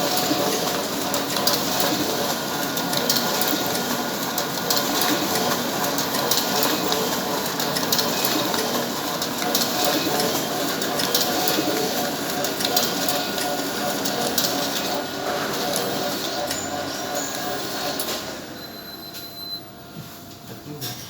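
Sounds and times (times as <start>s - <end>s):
photocopier whirring: 0.0s - 20.6s.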